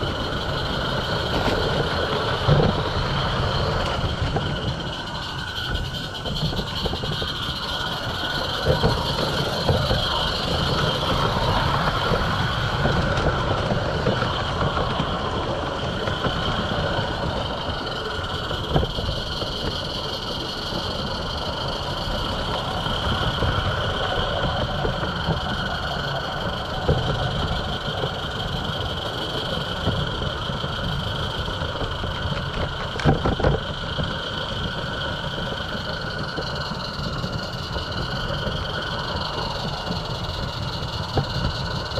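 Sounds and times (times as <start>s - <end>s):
model steam locomotive running: 0.0s - 41.9s.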